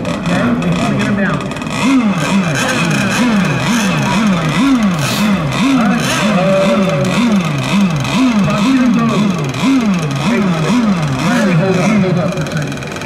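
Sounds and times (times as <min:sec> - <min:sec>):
small two-stroke boat engine: 0:00.0 - 0:13.0.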